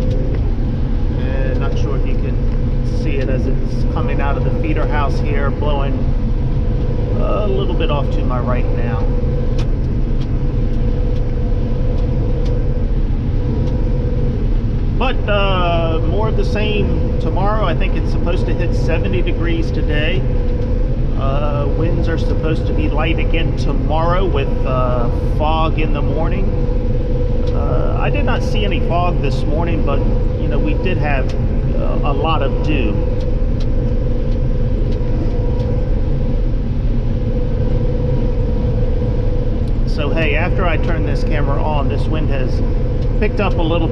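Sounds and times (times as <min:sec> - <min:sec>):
combine harvester low rumble: 0:00.0 - 0:43.9
faint constant hum: 0:00.0 - 0:43.9.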